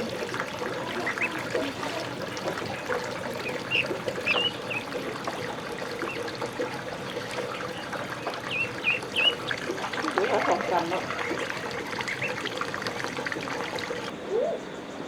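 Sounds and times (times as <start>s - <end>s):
water trickling and splashing: 0.0s - 14.2s.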